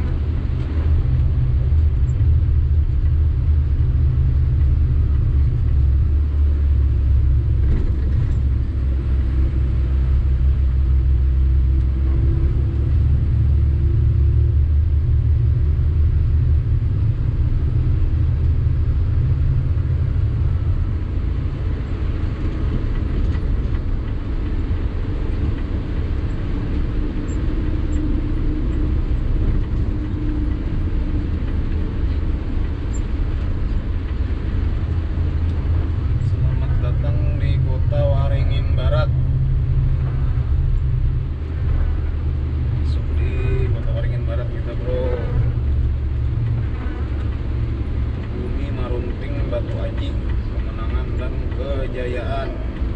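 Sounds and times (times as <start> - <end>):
truck engine and road noise: 0.0 - 52.9.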